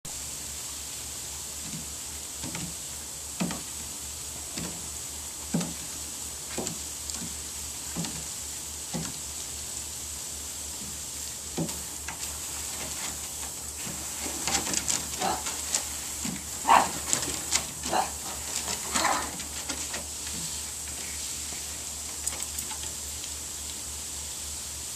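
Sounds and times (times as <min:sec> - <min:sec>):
garden hose spraying: 0:00.1 - 0:24.9.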